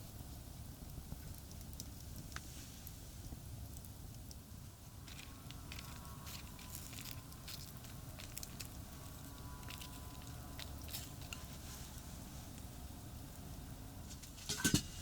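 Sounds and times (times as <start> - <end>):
campfire crackling and popping: 0.0 - 14.8
low rumble of traffic: 0.0 - 15.0.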